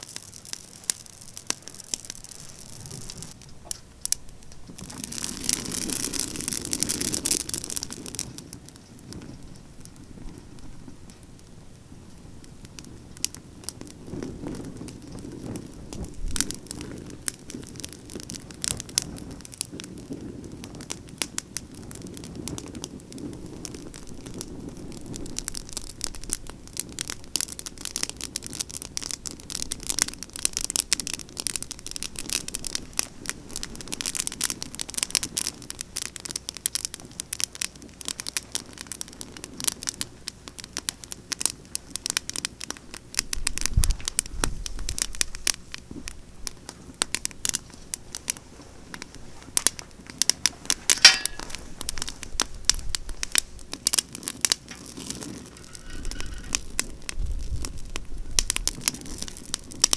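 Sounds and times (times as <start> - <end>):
campfire crackling and popping: 0.0 - 59.9
low rush of flame: 0.0 - 59.9.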